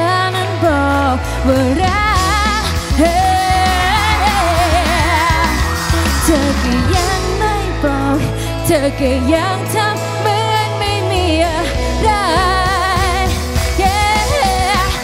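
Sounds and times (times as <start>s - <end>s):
backing music with heavy bass: 0.0s - 15.0s
person singing into microphone: 0.0s - 15.0s.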